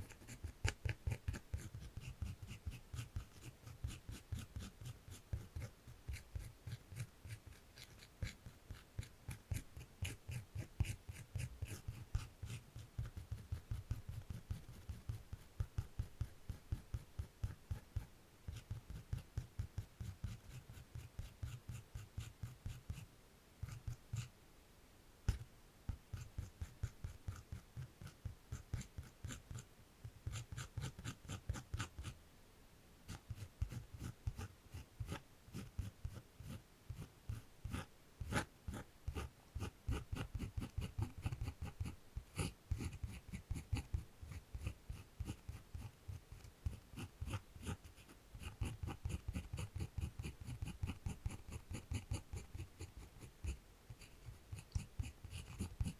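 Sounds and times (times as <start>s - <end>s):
pencil strokes scratching on paper: 0.0s - 24.3s, 25.3s - 32.2s, 33.1s - 55.9s.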